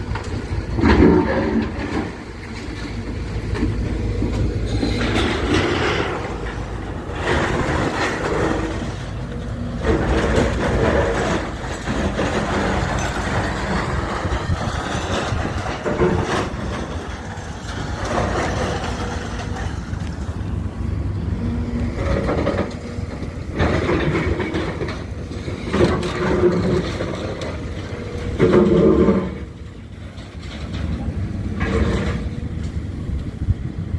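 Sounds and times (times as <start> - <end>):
house demolition grinding and crunching: 0.0 - 33.1
heavy diesel machinery running: 0.0 - 33.9.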